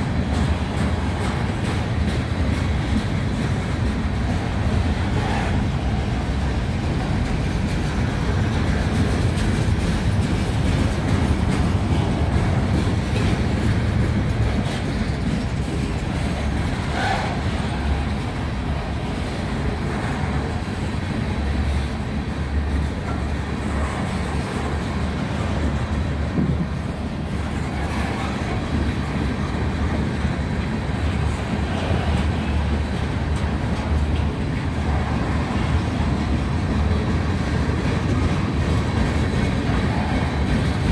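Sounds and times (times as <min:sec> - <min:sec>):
freight cars rumbling on rails: 0:00.0 - 0:40.9.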